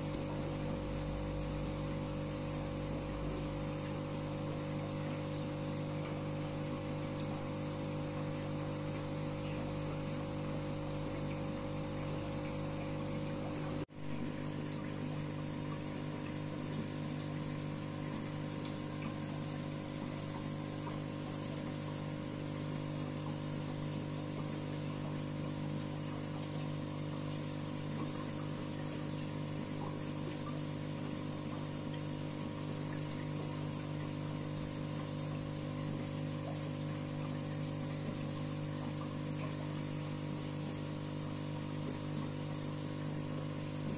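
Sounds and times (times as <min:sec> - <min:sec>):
aquarium pump humming: 0:00.0 - 0:43.9
moving water: 0:00.0 - 0:43.9.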